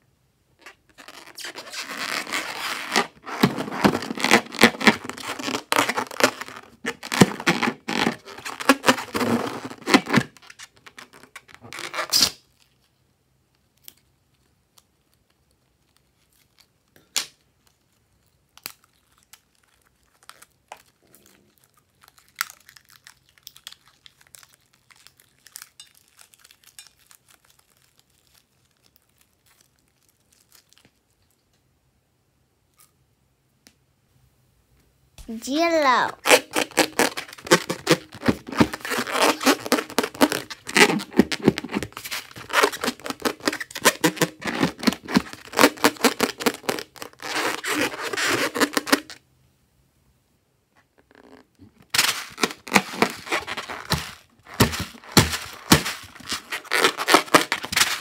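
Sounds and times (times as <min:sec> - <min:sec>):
balloon with sequins crinkling: 0:00.0 - 0:31.7, 0:35.2 - 0:49.3, 0:50.6 - 0:58.0.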